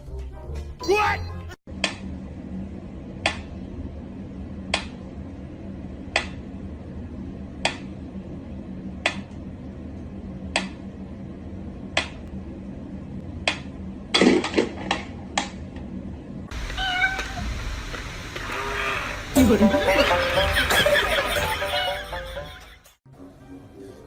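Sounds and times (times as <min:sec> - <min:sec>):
low hum: 0:01.7 - 0:21.9.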